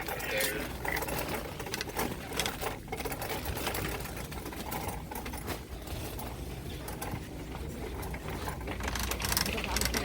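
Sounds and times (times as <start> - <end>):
faint clatter of handling: 0.0 - 10.0.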